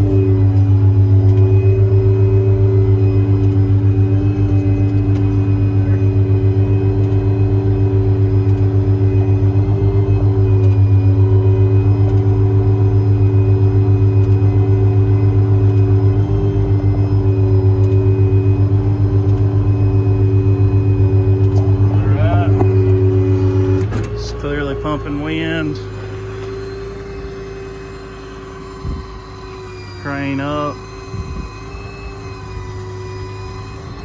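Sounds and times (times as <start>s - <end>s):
air compressor pulsing: 0.0s - 34.0s
truck engine running: 0.0s - 34.0s.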